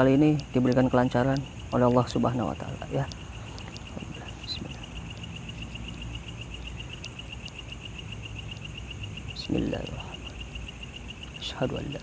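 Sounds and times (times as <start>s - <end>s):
faint insect ticks: 0.0s - 12.0s
insect chirping in rapid pulses: 0.0s - 12.0s.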